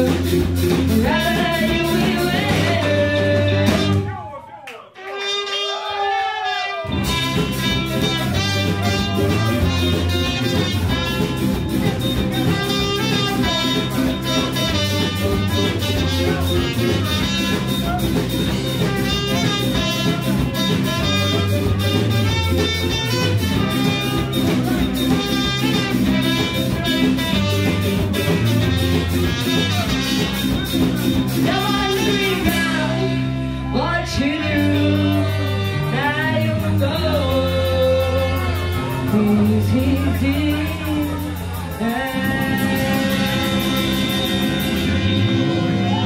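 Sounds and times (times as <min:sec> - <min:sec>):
ska band playing live: 0:00.0 - 0:46.0.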